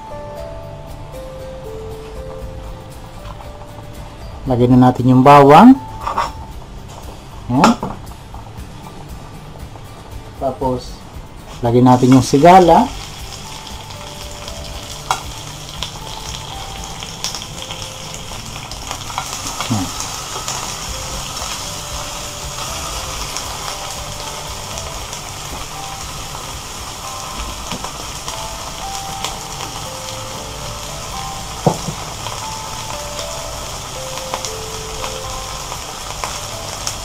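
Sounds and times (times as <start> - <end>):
langoustines sizzling in oil: 1.1 - 10.2, 11.4 - 37.0.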